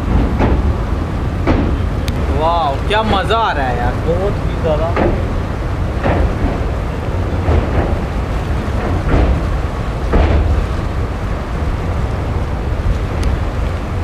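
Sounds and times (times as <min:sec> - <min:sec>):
train wheels clacking: 0:00.0 - 0:13.8
train rumbling: 0:00.0 - 0:14.0
wind on microphone: 0:00.0 - 0:14.0.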